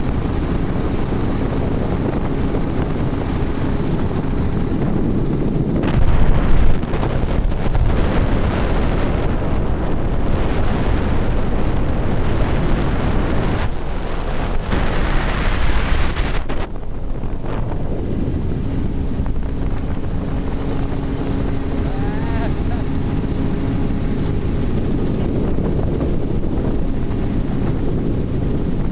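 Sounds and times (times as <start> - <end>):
engine drone: 0.0 - 28.9
wind buffeting microphone: 0.0 - 28.9.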